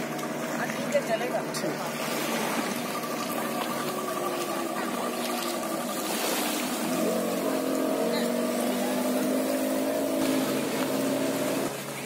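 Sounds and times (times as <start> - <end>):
motorboat engine running: 0.0 - 12.0
small waves washing: 0.0 - 12.0.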